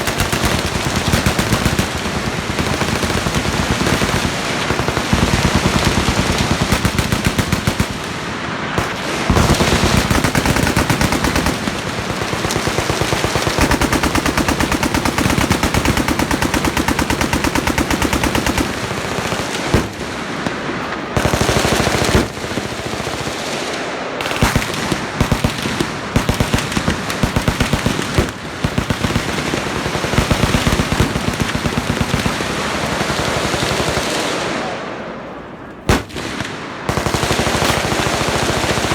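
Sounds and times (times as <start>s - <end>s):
machine guns firing full-auto: 0.0s - 34.9s, 35.9s - 38.9s
loud gun blasts: 0.0s - 35.1s, 35.8s - 38.9s.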